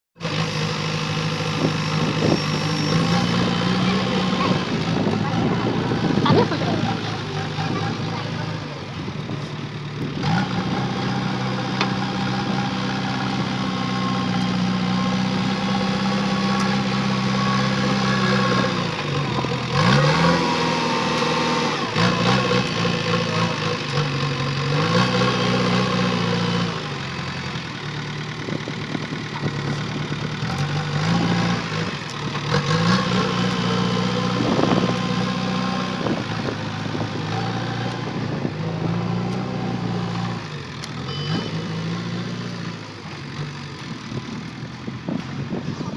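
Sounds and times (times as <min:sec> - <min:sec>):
diesel engine revving: 0:00.2 - 0:45.9.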